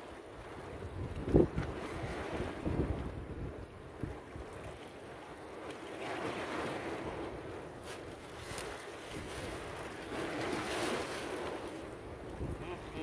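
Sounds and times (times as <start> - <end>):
sea waves washing in: 0.0 - 13.0
wind rumbling on microphone: 0.0 - 13.0.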